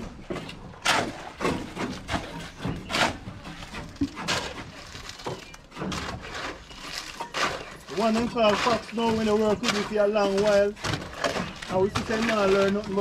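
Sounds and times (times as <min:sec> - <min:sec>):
shovels scraping concrete: 0:00.0 - 0:13.0.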